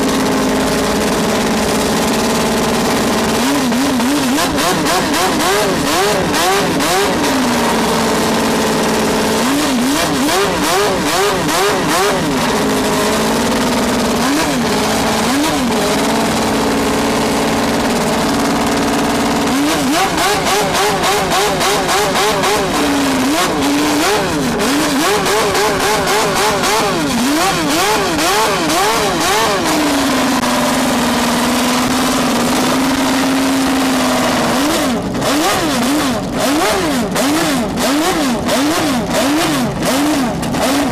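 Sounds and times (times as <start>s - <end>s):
racing engine revving: 0.0s - 40.9s.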